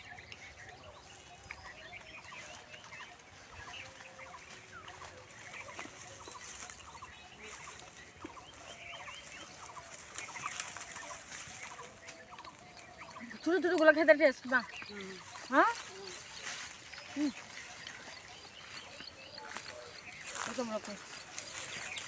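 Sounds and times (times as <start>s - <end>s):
birds chirping and clucking: 0.0s - 22.0s.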